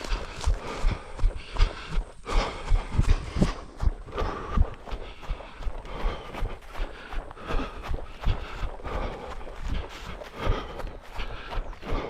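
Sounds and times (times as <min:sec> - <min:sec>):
footsteps on forest ground: 0:00.0 - 0:12.0.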